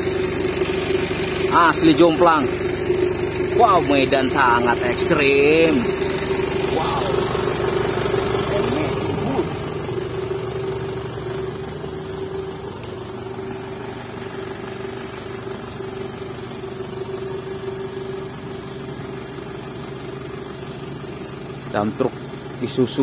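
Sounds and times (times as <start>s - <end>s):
constant hum: 0.0s - 23.0s
diesel truck engine idling: 0.0s - 23.0s.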